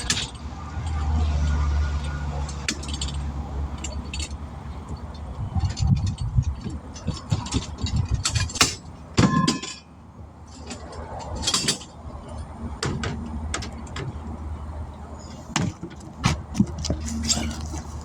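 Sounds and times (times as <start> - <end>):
hand tools clanking against metal: 2.0 - 14.2, 15.2 - 18.0.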